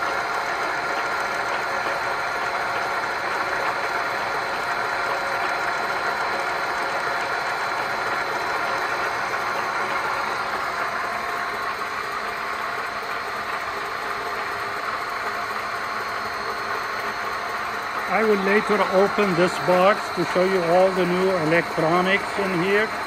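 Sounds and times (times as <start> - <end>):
gear cutting machine whirring: 0.0 - 23.0.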